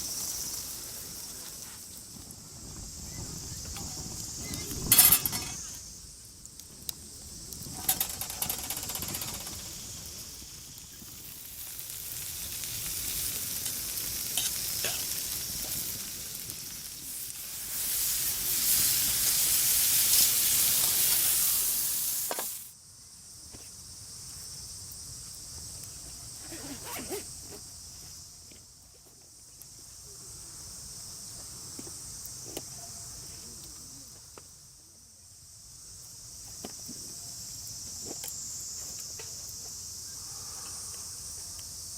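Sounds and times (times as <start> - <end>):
high insect drone: 0.0 - 41.9
steak sizzling over campfire: 0.0 - 41.9.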